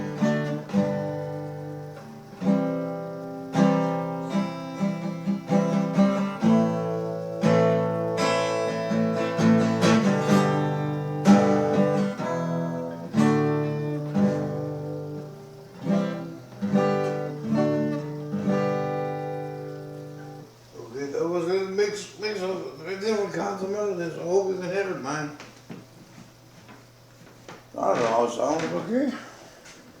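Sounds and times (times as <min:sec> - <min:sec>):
acoustic guitar strumming: 0:00.0 - 0:25.4.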